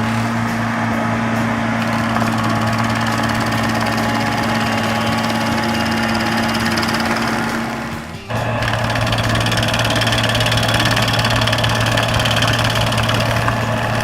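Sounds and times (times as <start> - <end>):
stump grinder engine humming: 0.0 - 14.0.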